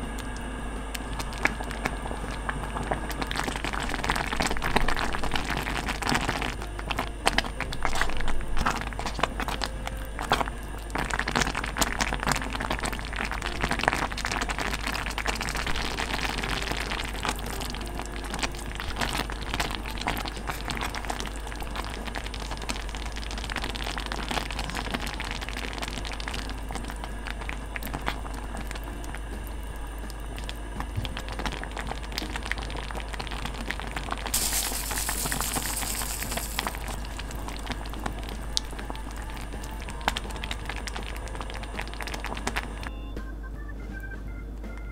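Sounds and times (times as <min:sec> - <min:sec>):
porridge bubbling in a pot: 0:00.0 - 0:43.0.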